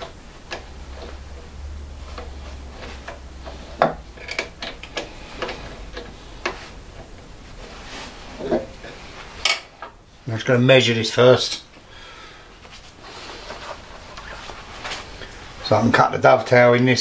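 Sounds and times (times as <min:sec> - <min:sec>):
low hum: 0:00.0 - 0:15.9.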